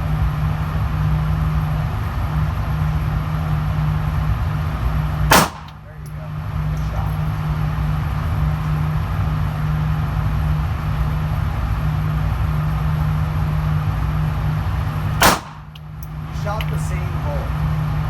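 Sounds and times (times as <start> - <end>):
air-handling hum and hiss: 0.0 - 18.0.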